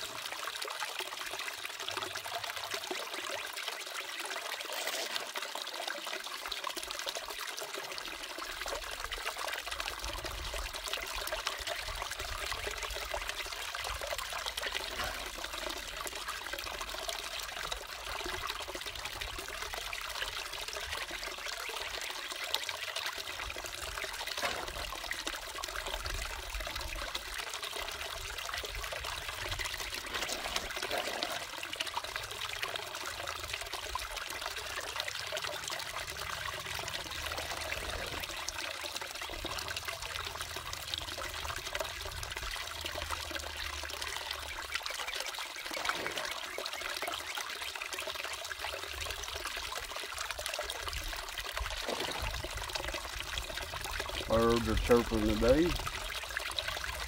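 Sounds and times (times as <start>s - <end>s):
water trickling down sluice: 0.0s - 57.0s.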